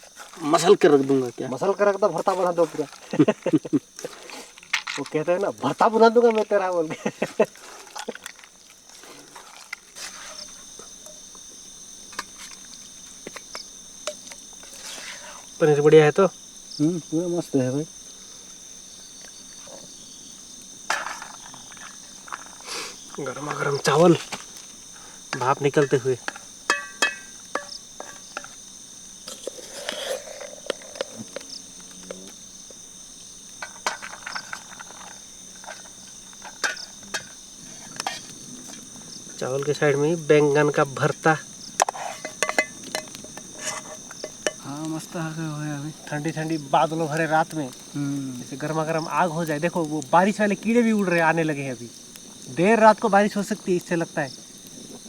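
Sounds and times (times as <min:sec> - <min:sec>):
night insects chirring: 0:00.0 - 0:55.0.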